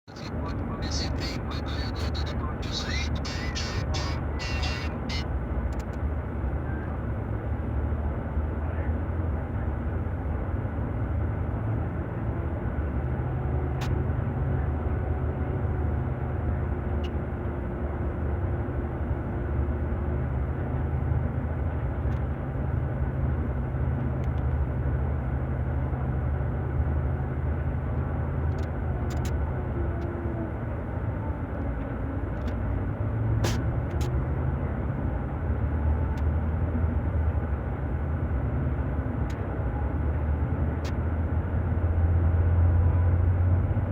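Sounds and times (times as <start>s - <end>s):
coach diesel engine droning: 0.1s - 43.9s.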